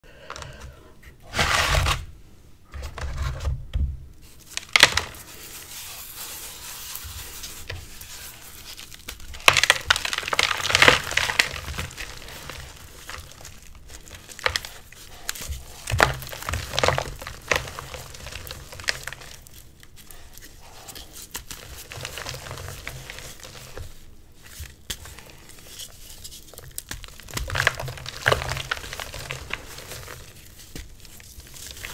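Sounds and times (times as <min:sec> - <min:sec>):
chalk blocks crunching in hands: 0:04.4 - 0:31.9.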